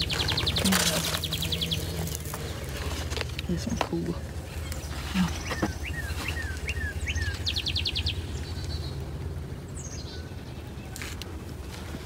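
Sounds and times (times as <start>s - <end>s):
songbirds chirping and trilling: 0.0s - 12.0s
steady low rumble: 0.0s - 12.0s.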